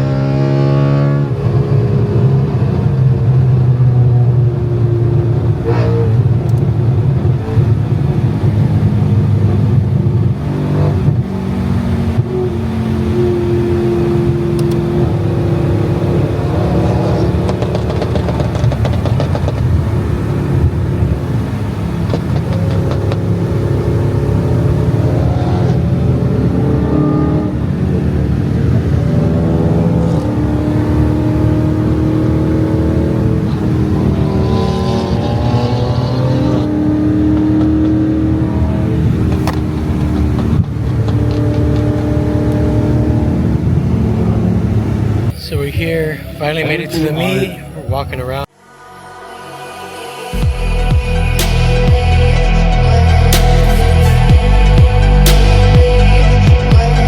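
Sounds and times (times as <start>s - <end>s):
car engine revving: 0.0s - 57.0s
road noise rumble: 0.0s - 57.0s.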